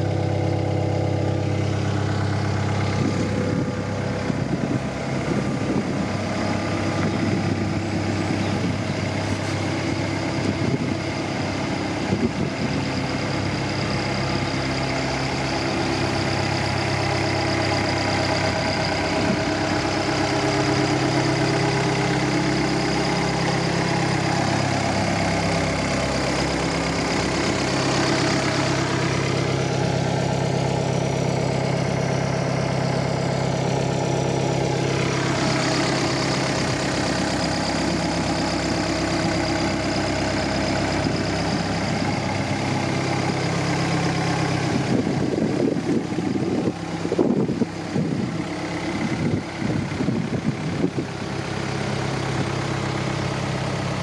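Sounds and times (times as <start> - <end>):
excavator diesel engine idling: 0.0 - 54.0.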